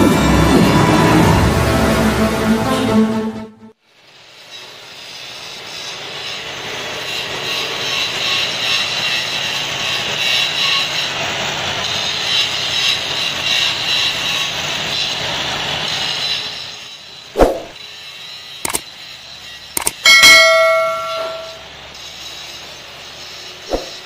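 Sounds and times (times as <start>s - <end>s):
cut-off saw grinding steel: 4.0s - 24.0s.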